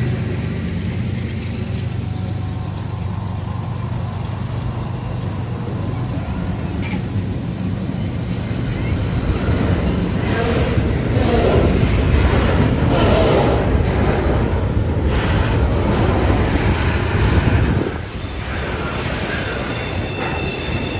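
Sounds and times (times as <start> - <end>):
diesel engine drone: 0.0 - 18.8
rail rumble: 0.0 - 20.9.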